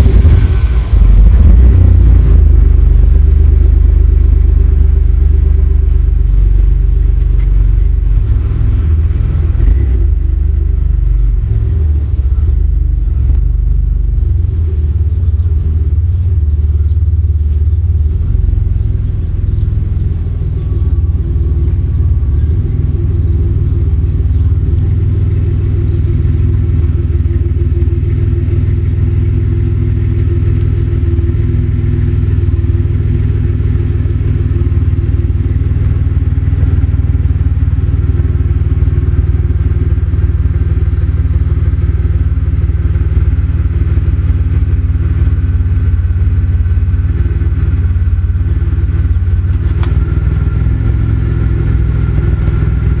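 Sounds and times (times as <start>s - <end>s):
deep car exhaust rumble: 0.0s - 53.0s.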